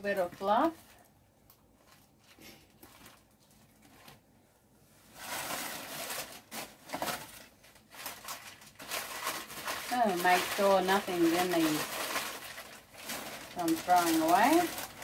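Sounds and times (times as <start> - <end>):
plastic packaging crinkling: 0.0 - 4.3, 5.2 - 15.0
faint soft handling sounds: 0.0 - 15.0.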